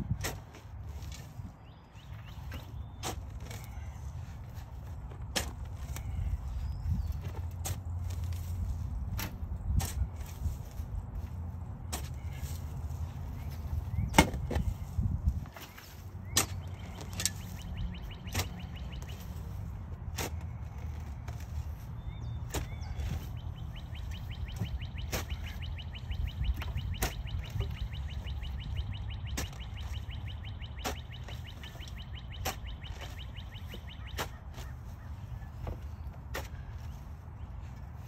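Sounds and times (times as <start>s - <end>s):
shovel chopping into soil: 0.1s - 1.4s, 2.3s - 3.8s, 4.6s - 6.4s, 7.2s - 23.3s, 24.0s - 28.7s, 29.3s - 30.0s, 30.8s - 34.9s, 35.6s - 36.9s.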